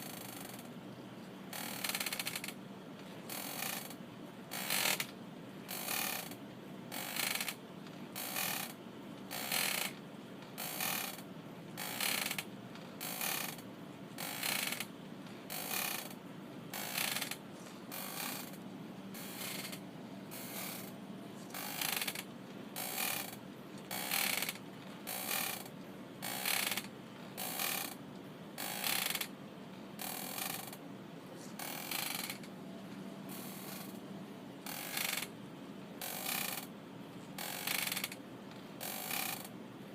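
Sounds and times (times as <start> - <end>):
rocking chair creaking: 0.0 - 0.7, 1.5 - 5.1, 5.7 - 11.2, 11.8 - 13.6, 14.2 - 28.0, 28.6 - 29.3, 30.0 - 30.8, 31.4 - 32.6, 33.3 - 34.0, 34.6 - 35.3, 36.0 - 36.7, 37.4 - 39.5
faint low hum: 0.0 - 34.7.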